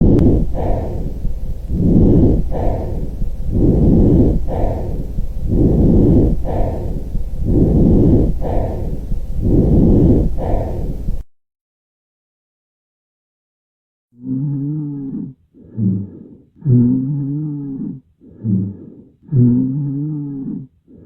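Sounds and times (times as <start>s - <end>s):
breathing through a stethoscope: 0.0s - 11.3s, 15.1s - 21.0s.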